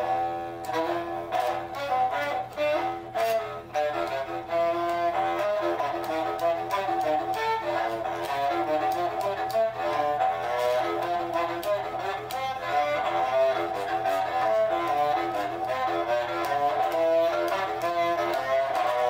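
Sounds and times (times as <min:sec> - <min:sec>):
bowed horn fiddle: 0:00.0 - 0:19.0.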